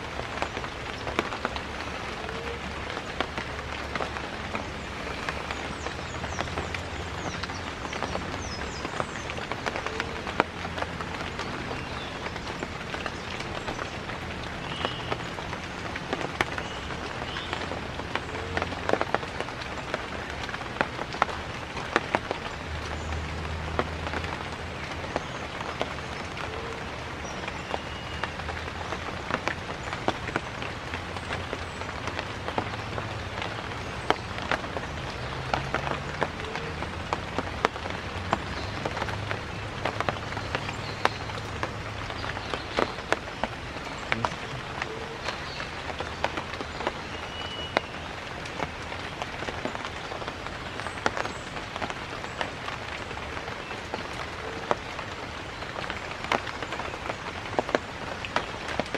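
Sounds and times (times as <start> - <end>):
rain falling on leaves: 0.0 - 58.9.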